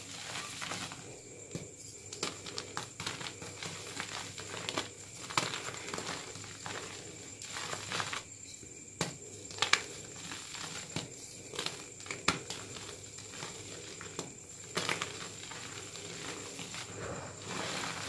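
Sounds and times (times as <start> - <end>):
chalk crunching and crumbling: 0.0 - 8.3, 9.0 - 18.0.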